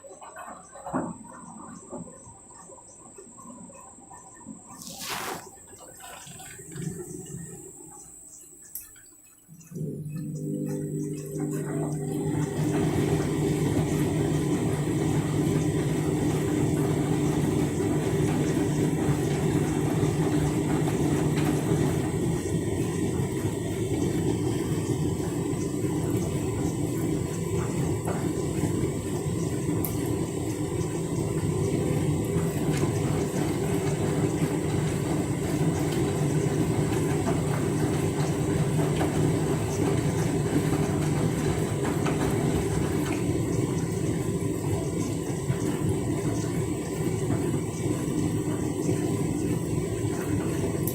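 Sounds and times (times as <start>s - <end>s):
washing machine running: 0.0s - 50.9s.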